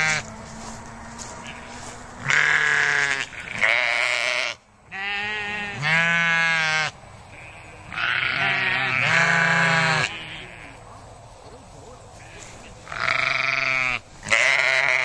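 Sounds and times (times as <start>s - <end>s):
sheep bleating: 0.0s - 0.3s, 1.2s - 10.8s, 12.2s - 15.0s.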